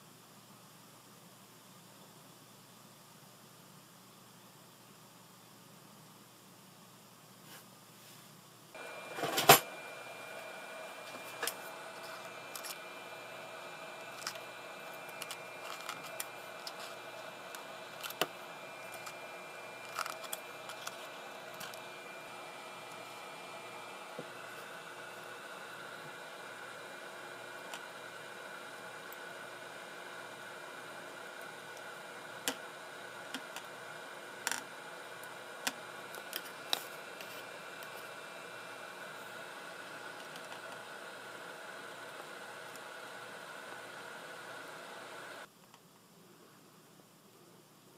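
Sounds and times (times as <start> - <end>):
steady hiss: 0.0 - 47.9.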